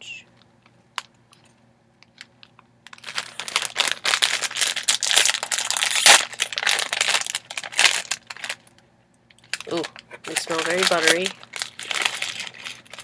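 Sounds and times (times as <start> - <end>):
plastic snack bag crinkling: 2.1 - 13.0.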